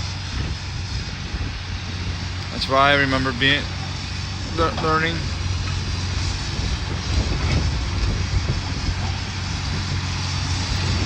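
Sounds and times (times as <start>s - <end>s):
heavy diesel machinery running: 0.0s - 11.0s.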